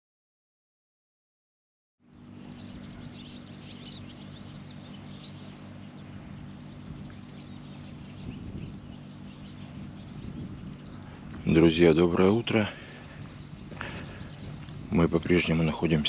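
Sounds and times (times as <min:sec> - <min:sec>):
steady low hum: 0:02.0 - 0:16.0
birds chirping: 0:02.1 - 0:16.0.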